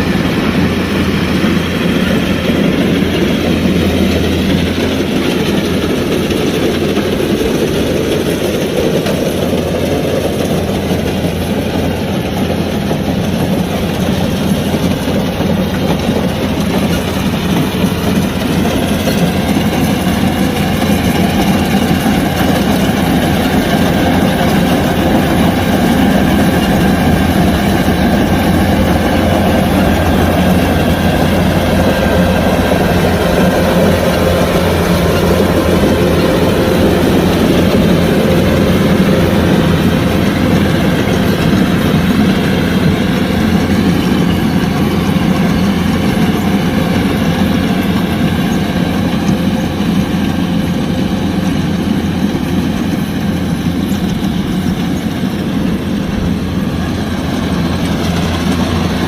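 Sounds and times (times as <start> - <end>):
combine harvester diesel engine drone: 0.0 - 59.0.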